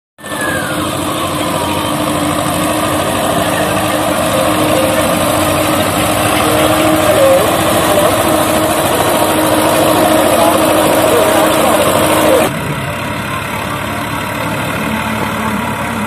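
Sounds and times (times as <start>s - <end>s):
tractor diesel engine running: 0.2s - 16.0s.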